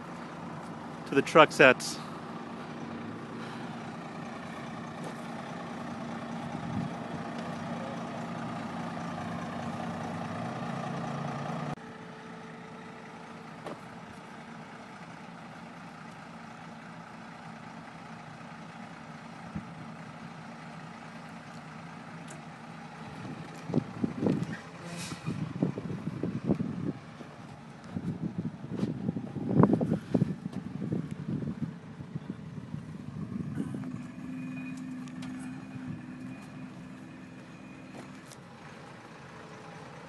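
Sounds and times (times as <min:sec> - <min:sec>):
forklift engine humming: 0:00.0 - 0:40.0.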